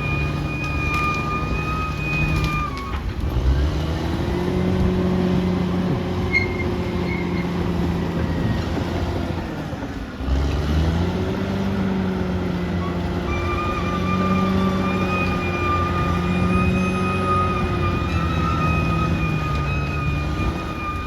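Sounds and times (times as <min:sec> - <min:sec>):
bulldozer diesel engine under load: 0:00.0 - 0:21.0.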